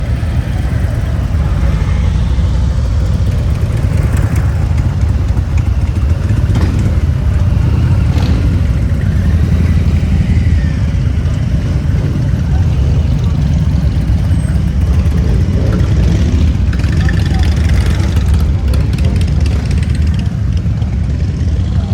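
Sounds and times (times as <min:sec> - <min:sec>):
motorcycle engine rumbling: 0:00.0 - 0:21.9.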